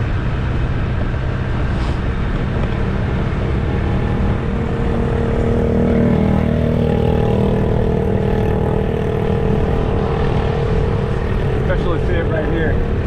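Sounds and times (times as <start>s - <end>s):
low road rumble: 0.0s - 13.0s
vehicle engine running: 0.0s - 13.0s.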